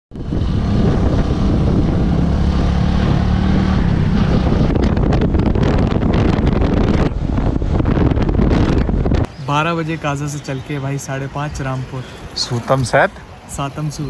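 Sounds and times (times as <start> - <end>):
wind rushing over microphone: 0.1 - 13.7.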